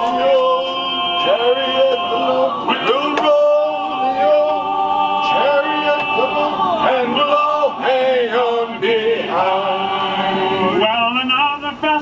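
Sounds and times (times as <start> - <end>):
sustained accompaniment notes: 0.0 - 11.0
man singing a sea shanty: 0.0 - 12.0.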